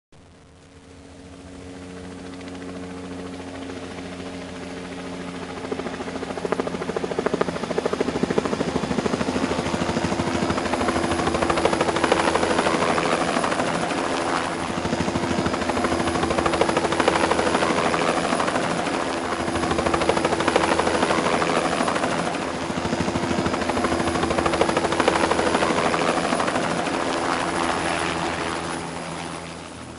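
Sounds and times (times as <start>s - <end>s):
helicopter rotor chopping: 0.3s - 29.9s.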